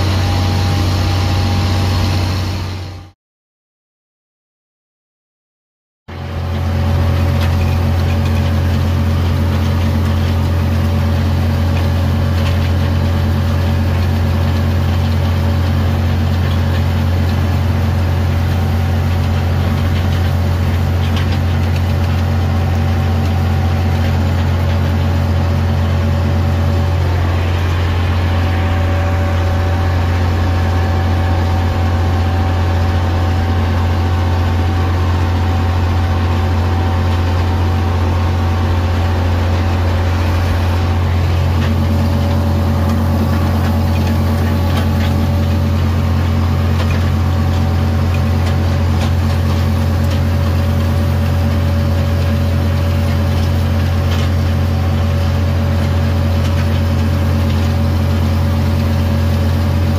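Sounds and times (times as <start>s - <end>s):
diesel tractor engine running: 0.0s - 3.2s, 6.1s - 59.9s.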